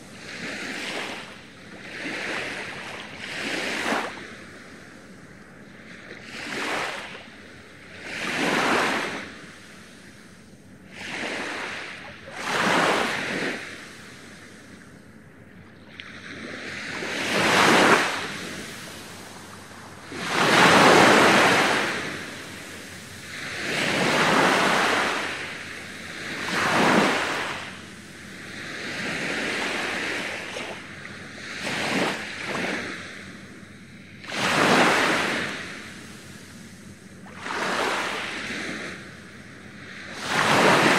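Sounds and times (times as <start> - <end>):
small waves washing on sand: 0.0 - 15.0, 15.7 - 40.9.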